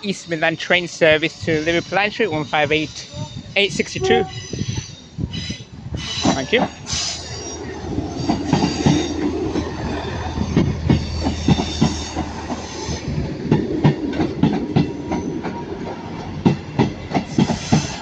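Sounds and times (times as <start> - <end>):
low train rumble: 0.0 - 18.0
train wheels clattering over joints: 1.3 - 18.0.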